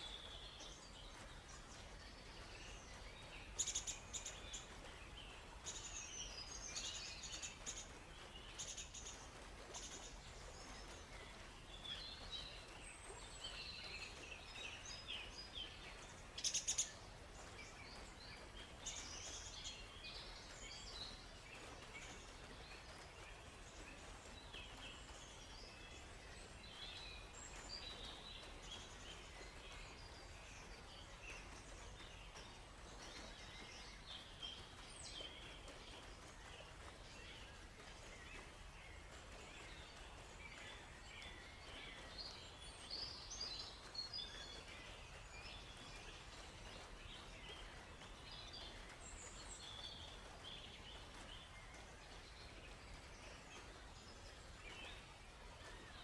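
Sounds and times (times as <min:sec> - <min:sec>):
faint low background noise: 0:00.0 - 0:56.0.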